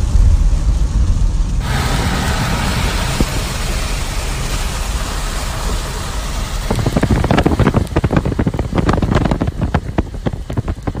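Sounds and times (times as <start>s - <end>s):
car road and wind noise: 0.0s - 11.0s
wind buffeting microphone: 0.0s - 11.0s.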